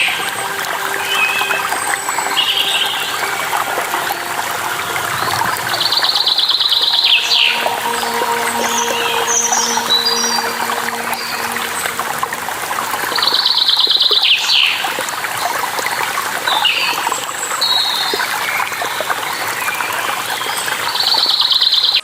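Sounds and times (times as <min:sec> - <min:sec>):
running water flowing: 0:00.0 - 0:22.0.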